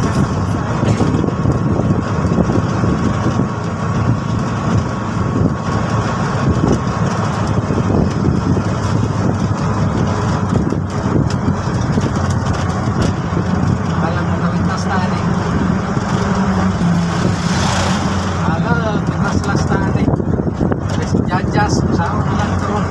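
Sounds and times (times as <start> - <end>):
road and wind noise: 0.0 - 22.9
three-wheeler engine running: 0.0 - 22.9.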